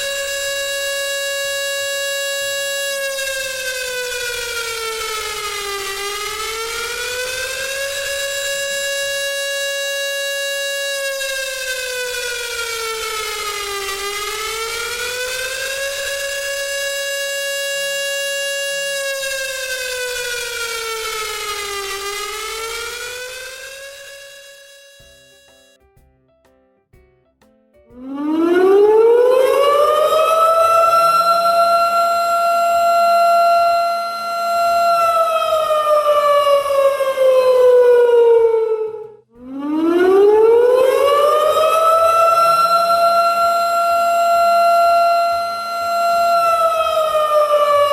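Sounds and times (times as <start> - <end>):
air-raid siren wailing: 0.0 - 25.8, 28.0 - 47.9.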